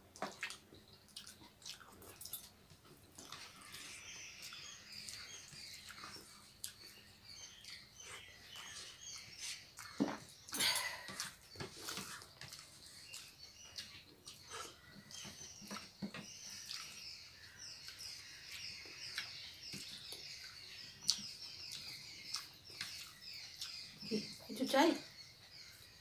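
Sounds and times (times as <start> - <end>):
people chewing food: 0.0 - 26.0
faint high chirps: 3.2 - 26.0.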